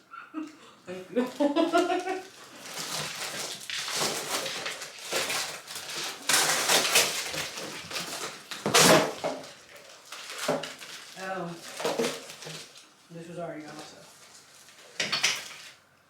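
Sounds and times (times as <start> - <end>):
packaging rustling: 1.2 - 15.8.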